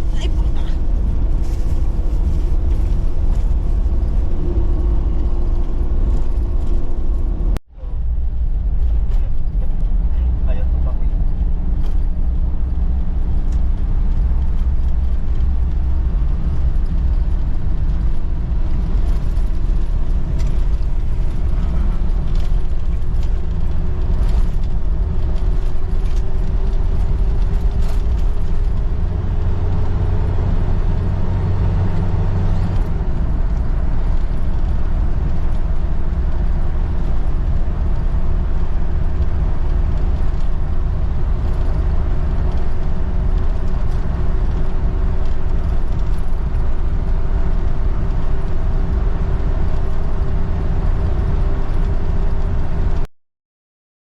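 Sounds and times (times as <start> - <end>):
car road and engine rumble: 0.0 - 53.1.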